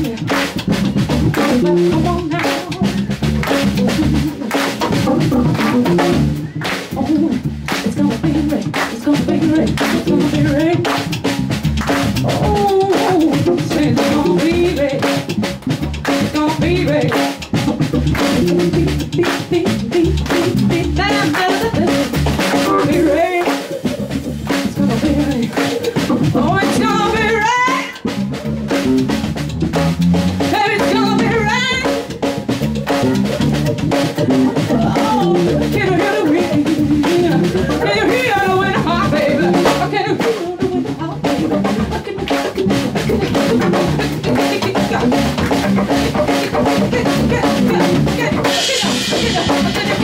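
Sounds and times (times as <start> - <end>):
bass guitar: 0.0 - 50.0
drum kit beat: 0.0 - 50.0.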